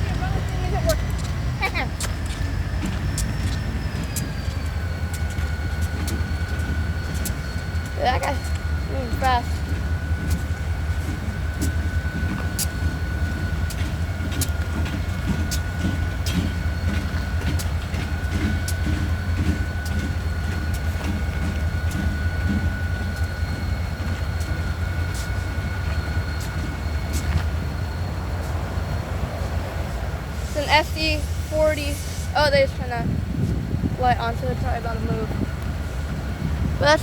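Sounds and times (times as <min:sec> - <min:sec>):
high whine: 0:00.0 - 0:30.0
train rumbling past: 0:00.0 - 0:37.0
wheels clicking over rail joints: 0:00.0 - 0:37.0.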